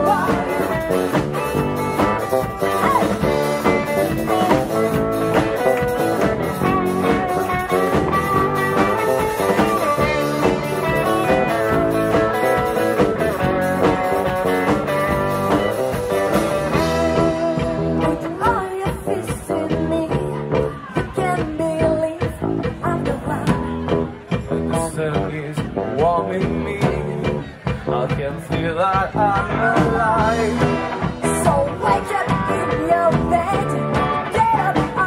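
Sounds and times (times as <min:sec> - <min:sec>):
pop-rock band playing: 0:00.0 - 0:35.0.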